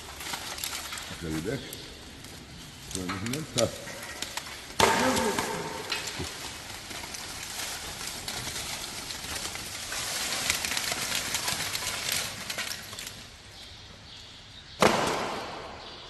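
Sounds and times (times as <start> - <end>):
charcoal lumps clattering: 0.0 - 14.1.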